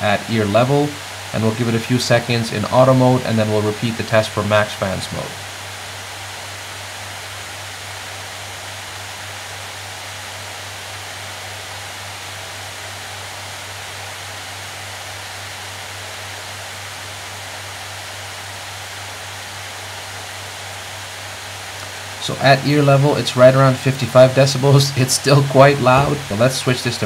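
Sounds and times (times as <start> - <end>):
laptop fans airy hiss: 0.0 - 27.0
low steady hum: 0.0 - 27.0.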